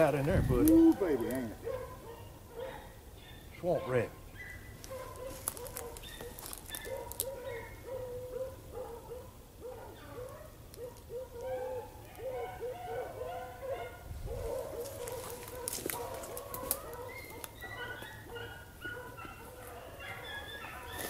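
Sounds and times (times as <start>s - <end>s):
dogs baying: 0.0s - 21.0s.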